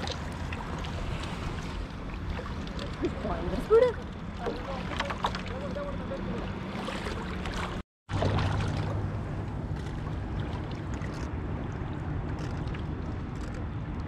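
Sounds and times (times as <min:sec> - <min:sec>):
seawater sloshing and splashing: 0:00.0 - 0:13.8.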